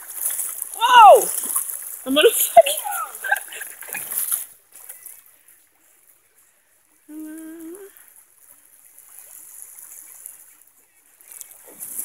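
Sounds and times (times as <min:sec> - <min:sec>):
river water trickling: 0:00.0 - 0:12.0.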